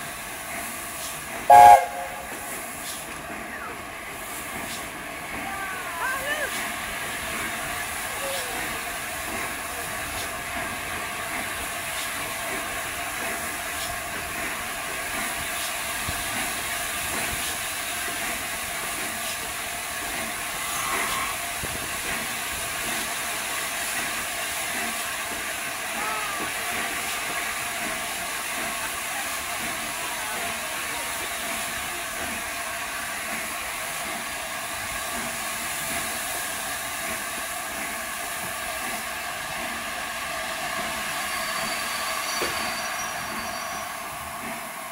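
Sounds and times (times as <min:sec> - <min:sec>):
steam locomotive hissing: 0:00.0 - 0:44.9.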